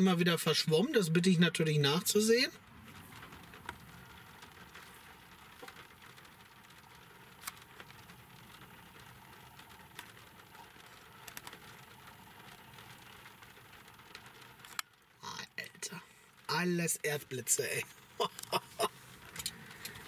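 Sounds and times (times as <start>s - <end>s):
faint steady hiss: 0.0s - 20.0s
raindrops tapping on a car: 0.0s - 20.0s.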